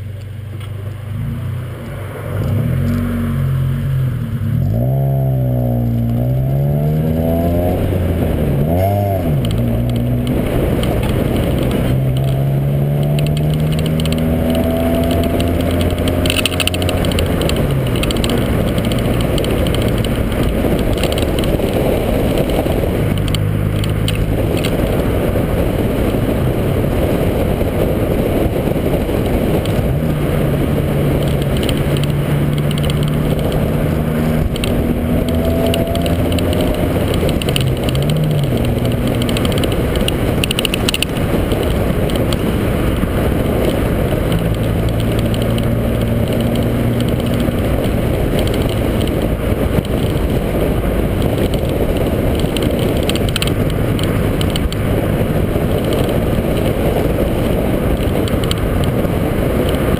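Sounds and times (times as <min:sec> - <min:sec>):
car engine hum: 0:00.0 - 0:59.9
wind and road noise rumble: 0:00.0 - 0:59.9.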